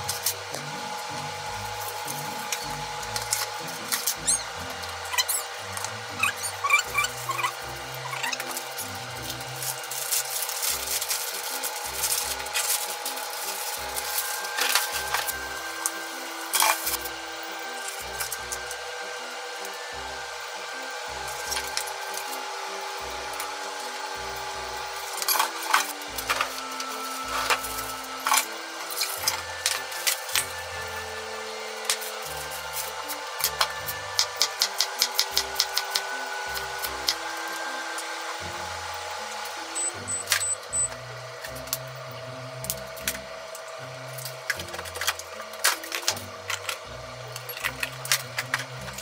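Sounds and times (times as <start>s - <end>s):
cling film crinkling and squeaking: 0.0s - 49.0s
soft background music: 0.0s - 49.0s.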